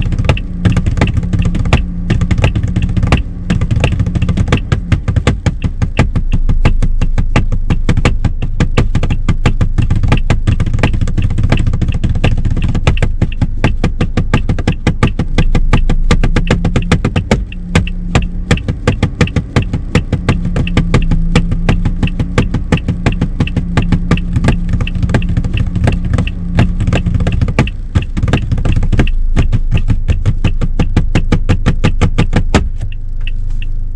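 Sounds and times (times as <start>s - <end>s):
car engine idling: 0.0s - 33.9s
fast hand drumming: 0.0s - 33.9s
hazard light flasher ticking: 0.0s - 33.9s.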